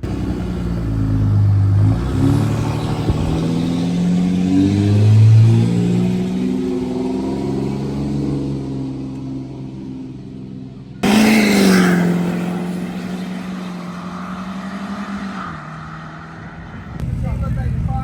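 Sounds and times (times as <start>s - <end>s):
car engine revving: 0.0s - 17.3s.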